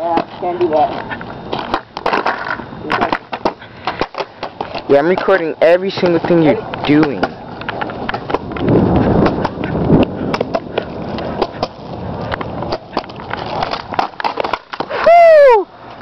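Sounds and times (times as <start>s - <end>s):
skateboard clacking over pavement joints: 0.0s - 15.0s
skateboard wheels rolling on concrete: 0.0s - 16.0s.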